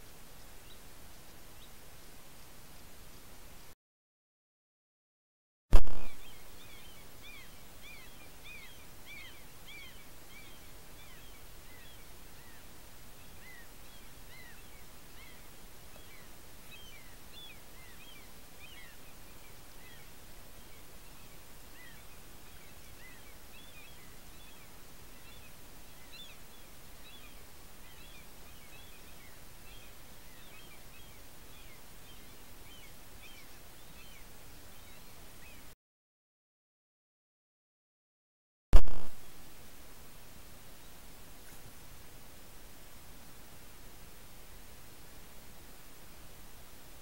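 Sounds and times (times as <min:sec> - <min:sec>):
microphone hiss: 0:00.0 - 0:03.8, 0:05.7 - 0:35.7, 0:38.8 - 0:47.0.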